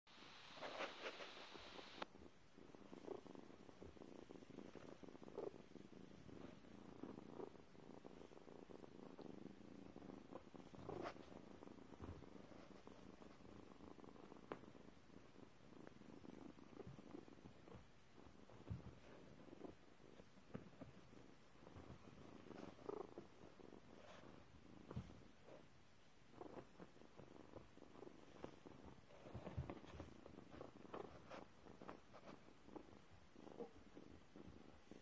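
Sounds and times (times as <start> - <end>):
cat purring: 0.1 - 35.0.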